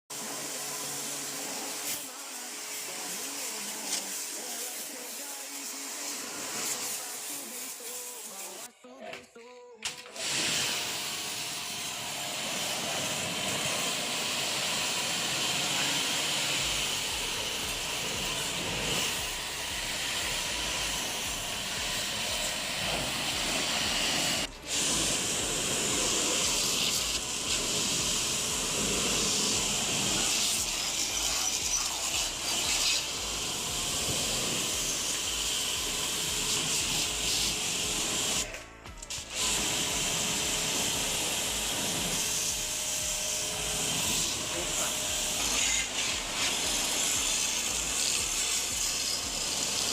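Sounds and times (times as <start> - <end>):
hissing spray: 0.1 - 8.7, 10.1 - 49.9.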